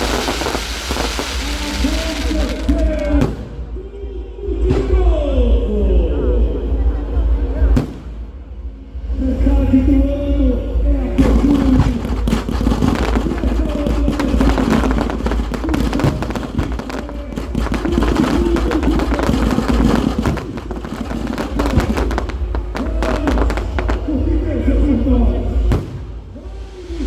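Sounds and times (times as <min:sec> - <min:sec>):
fireworks bangs and crackles: 0:00.0 - 0:06.0, 0:07.6 - 0:08.7, 0:11.2 - 0:26.8.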